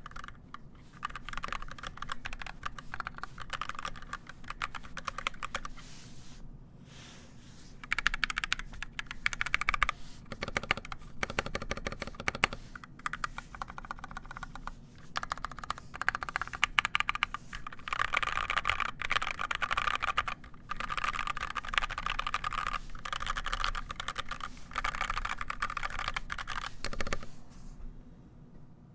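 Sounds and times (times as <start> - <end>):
fast mechanical keyboard typing: 0.0 - 5.8, 7.8 - 27.3.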